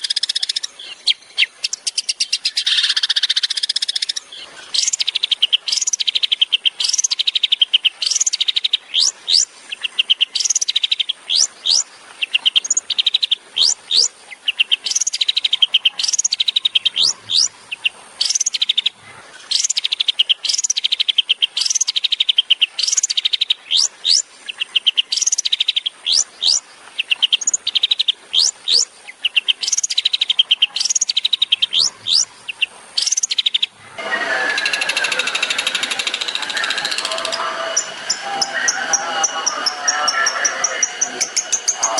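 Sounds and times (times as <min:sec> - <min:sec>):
shrike singing trills: 0:00.0 - 0:41.9.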